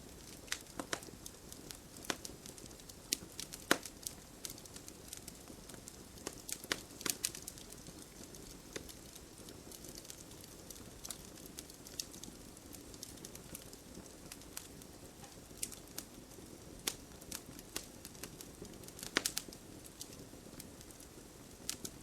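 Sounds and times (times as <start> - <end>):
flame hissing: 0.0 - 22.0
wood crackling and popping: 0.0 - 22.0.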